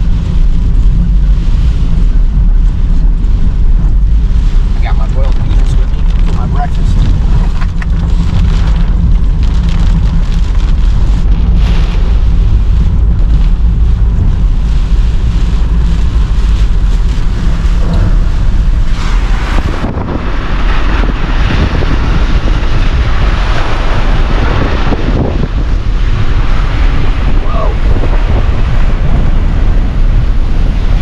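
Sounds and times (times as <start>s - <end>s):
engine and road rumble: 0.0s - 31.0s
wind buffeting microphone: 0.0s - 31.0s.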